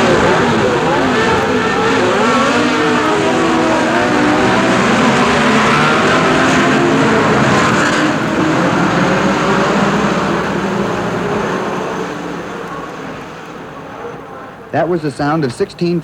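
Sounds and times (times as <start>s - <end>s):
racing car engines revving: 0.0s - 16.0s.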